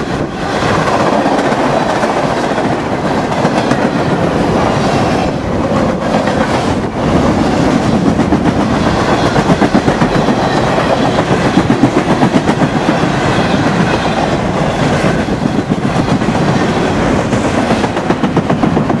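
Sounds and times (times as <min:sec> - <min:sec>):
steel wheels clattering over rail joints: 0:00.0 - 0:19.0.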